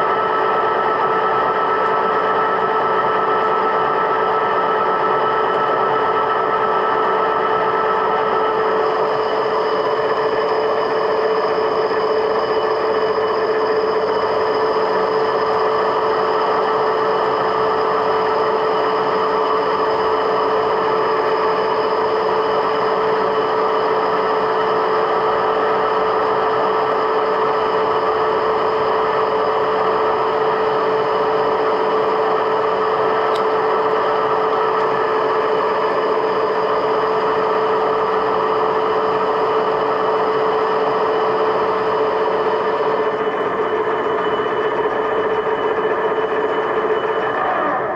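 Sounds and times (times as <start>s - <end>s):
machine tool motor whine: 0.0s - 47.9s.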